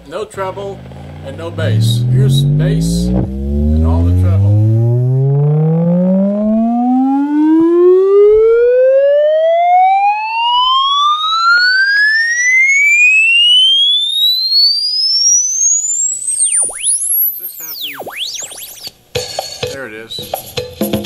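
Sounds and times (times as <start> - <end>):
rising test tone sweep: 0.0 - 19.0.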